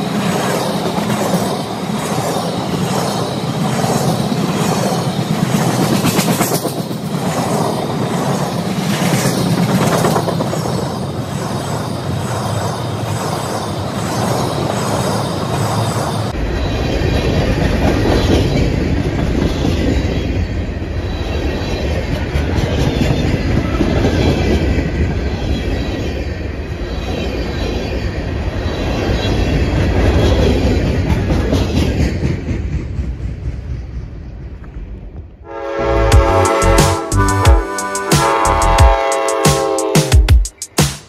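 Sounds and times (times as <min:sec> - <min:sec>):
train wheels rumbling on rail: 0:00.0 - 0:40.8.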